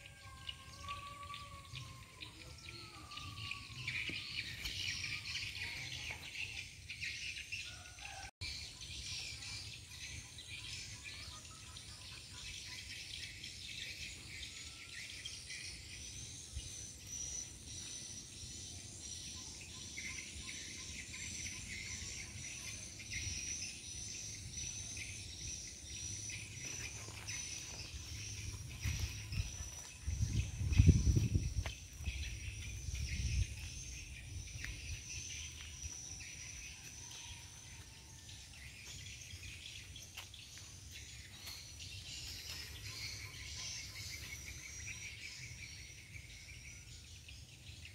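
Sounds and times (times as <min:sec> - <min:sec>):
birds chirping: 0:00.0 - 0:47.9
insects calling: 0:00.0 - 0:47.9.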